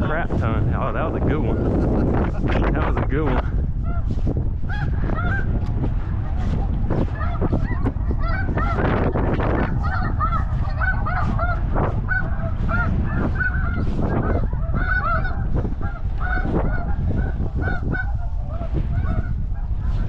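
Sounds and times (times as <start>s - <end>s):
snow geese honking: 0.9s - 20.0s.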